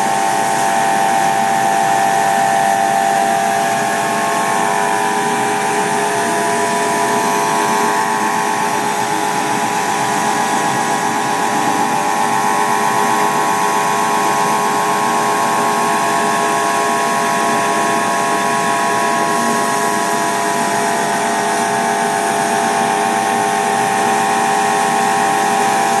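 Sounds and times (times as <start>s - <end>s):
laser cutting machine humming: 0.0s - 26.0s.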